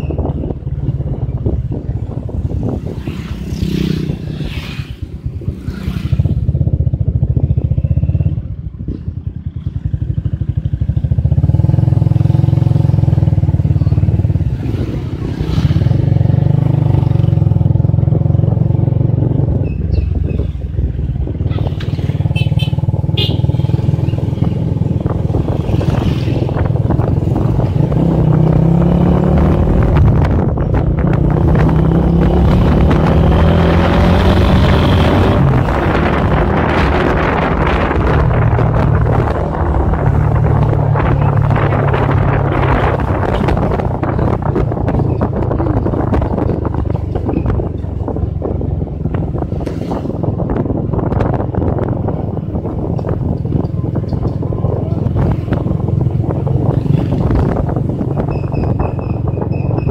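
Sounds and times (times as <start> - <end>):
motorcycle engine revving: 0.1 - 59.9.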